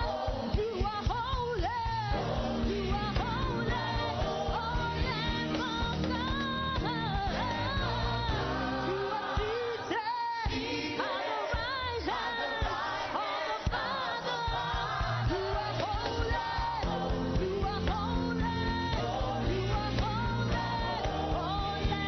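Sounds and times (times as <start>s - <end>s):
singing over a band: 0.0s - 22.0s.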